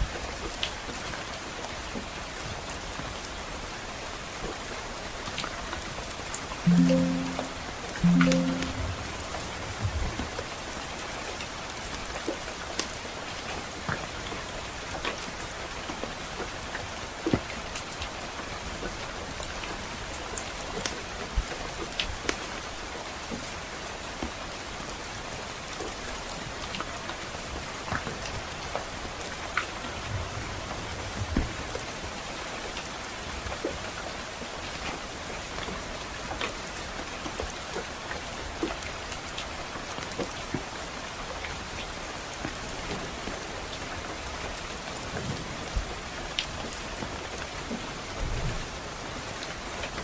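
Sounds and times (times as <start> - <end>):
soft rain: 0.0 - 50.0.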